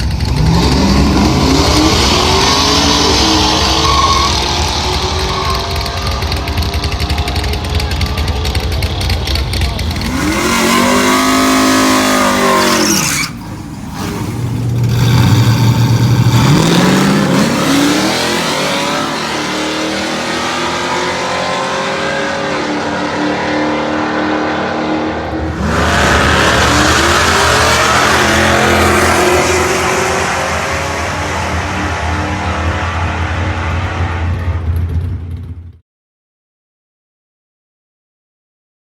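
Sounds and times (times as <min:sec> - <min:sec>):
engine accelerating at full throttle: 0:00.0 - 0:35.8.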